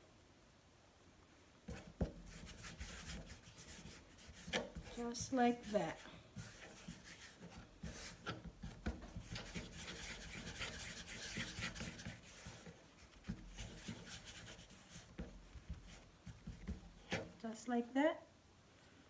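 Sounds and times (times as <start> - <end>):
hands rubbing dough on wood: 1.6 - 17.4.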